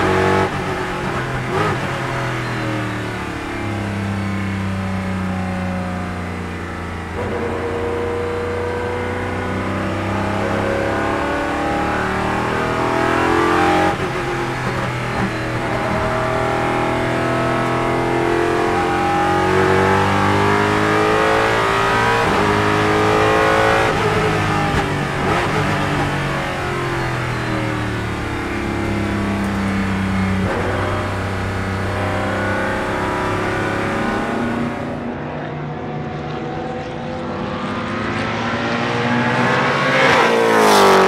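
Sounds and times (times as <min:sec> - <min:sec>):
race car engine accelerating: 0:00.0 - 0:41.0.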